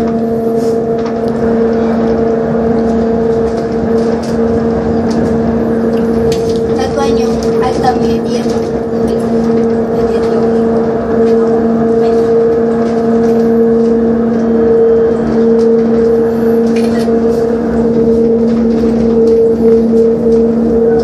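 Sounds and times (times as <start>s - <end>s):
running rumble: 0.0s - 21.0s
two-tone drive hum: 0.0s - 21.0s.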